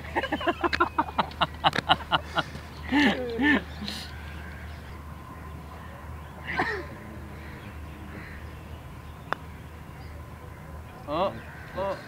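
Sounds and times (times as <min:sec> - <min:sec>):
steady low hum: 0:00.0 - 0:11.8
bird cawing: 0:02.2 - 0:12.0.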